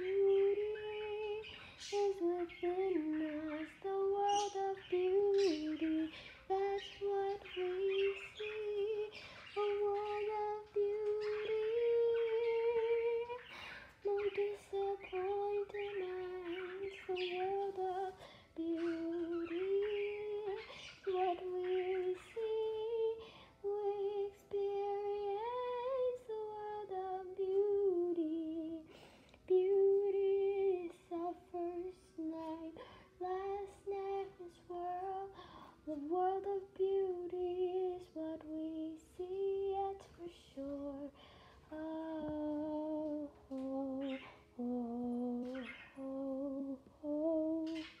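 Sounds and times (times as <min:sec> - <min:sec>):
bird chirping: 0:00.0 - 0:48.0
woman singing unaccompanied: 0:00.0 - 0:48.0.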